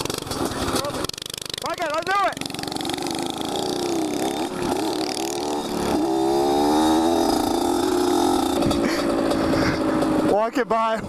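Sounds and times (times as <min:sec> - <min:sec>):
small motorcycle engine revving: 0:00.0 - 0:10.4.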